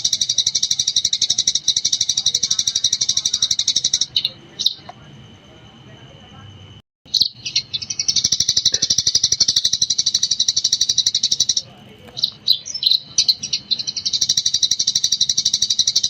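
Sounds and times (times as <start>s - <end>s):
sparrow chattering: 0.0s - 5.2s, 7.1s - 16.0s.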